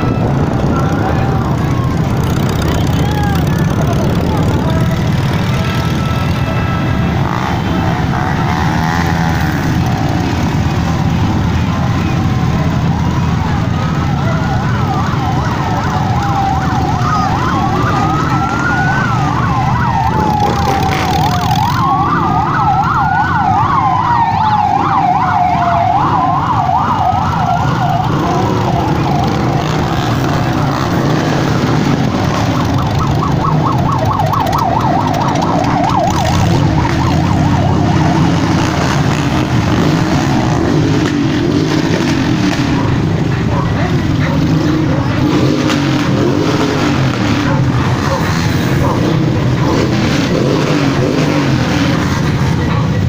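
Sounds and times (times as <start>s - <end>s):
electronic siren wailing and yelping: 0.0s - 52.0s
motorcycle engines rumbling: 0.0s - 53.0s.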